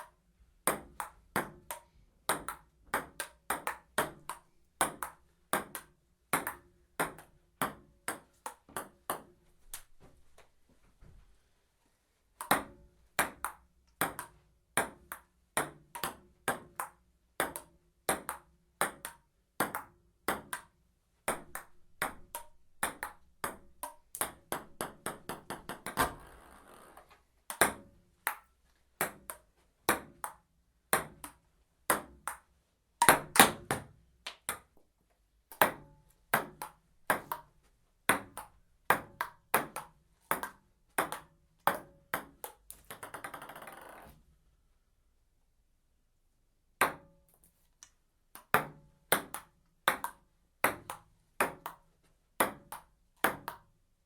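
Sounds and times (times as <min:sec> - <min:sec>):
ping-pong ball hitting paddles: 0:00.7 - 0:09.3, 0:12.4 - 0:20.7, 0:21.3 - 0:34.8, 0:35.5 - 0:37.5, 0:38.1 - 0:44.1, 0:46.8 - 0:47.1, 0:48.4 - 0:51.8, 0:52.4 - 0:53.7.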